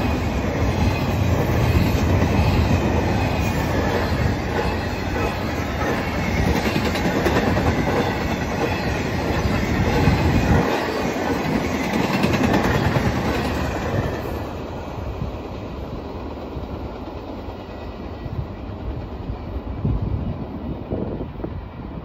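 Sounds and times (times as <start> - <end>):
train wheels clacking over rails: 0.0 - 19.5.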